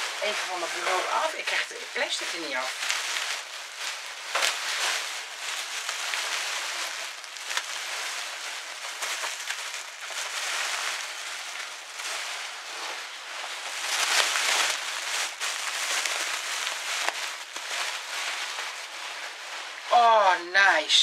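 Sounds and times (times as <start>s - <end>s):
plastic wrapping crinkling: 0.0s - 21.0s.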